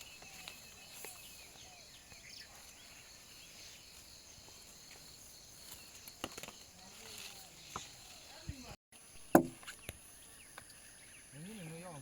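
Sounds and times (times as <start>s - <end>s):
insects chorusing: 0.0s - 12.0s.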